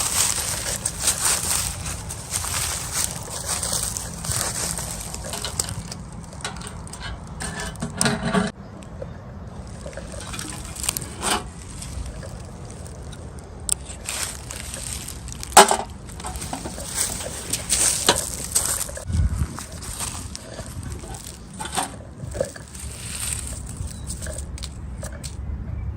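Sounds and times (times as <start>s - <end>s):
packaging rustling and crinkling: 0.0s - 7.4s, 9.6s - 25.4s.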